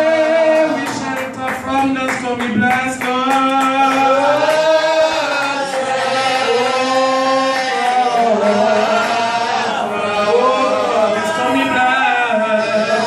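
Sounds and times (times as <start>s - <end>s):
man singing worship song: 0.0s - 13.0s.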